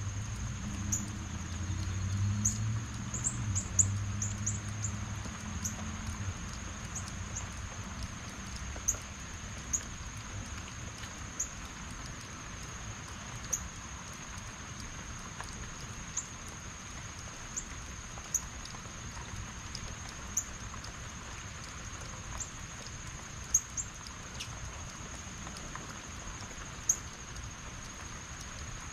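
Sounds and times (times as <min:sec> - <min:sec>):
heavy rain: 0:00.0 - 0:28.9.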